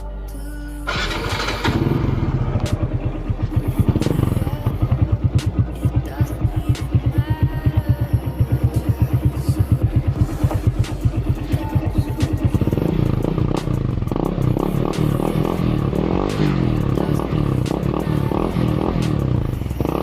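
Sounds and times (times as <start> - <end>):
motorcycle engine idling and revving: 0.9 - 20.0.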